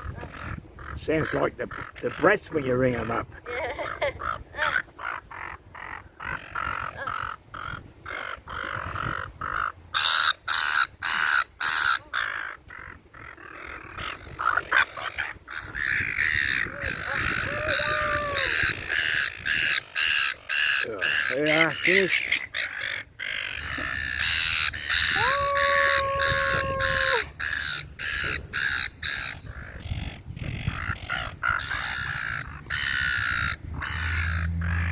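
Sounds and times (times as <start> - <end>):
gulls squawking: 0.0 - 34.9.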